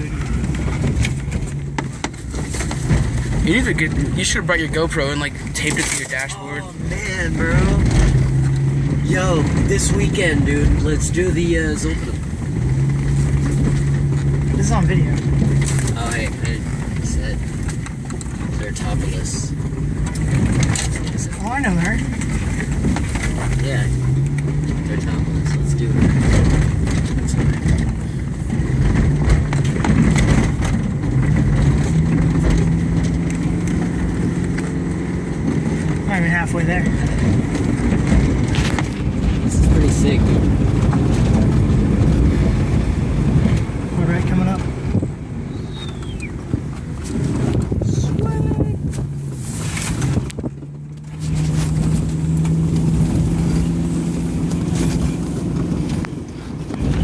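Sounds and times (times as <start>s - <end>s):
car engine pulling: 0.0s - 57.0s
car knocks and rattles: 0.0s - 57.0s.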